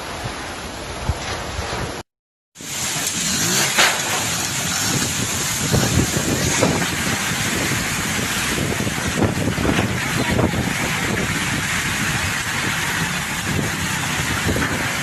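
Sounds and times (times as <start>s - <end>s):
strong wind gusts buffeting microphone: 2.6s - 15.0s.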